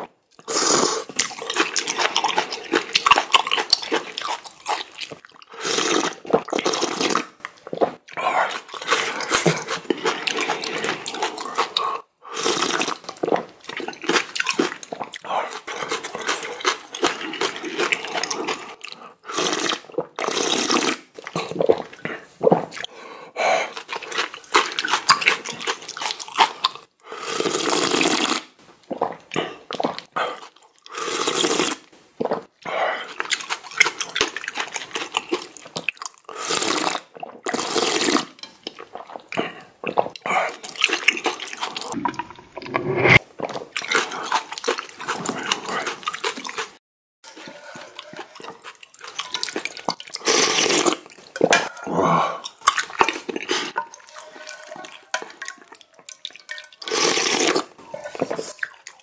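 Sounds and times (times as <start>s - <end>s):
wet chewing and smacking: 0.0s - 12.0s, 12.7s - 19.1s, 23.7s - 26.9s, 32.2s - 51.8s, 52.4s - 59.0s
noodles slurped: 0.0s - 22.9s, 23.6s - 59.0s.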